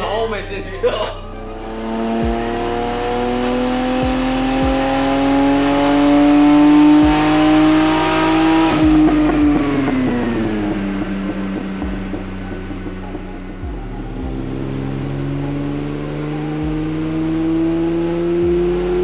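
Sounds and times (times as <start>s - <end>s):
low thumps: 0.0s - 19.0s
car engine revving on dyno: 1.5s - 19.0s.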